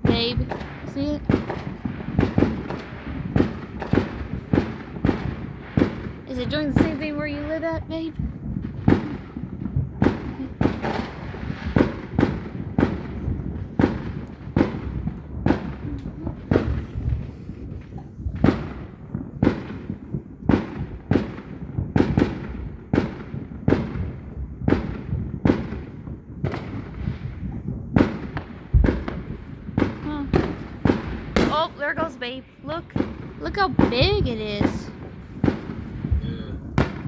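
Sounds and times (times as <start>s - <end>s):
fireworks exploding: 0.0s - 37.0s.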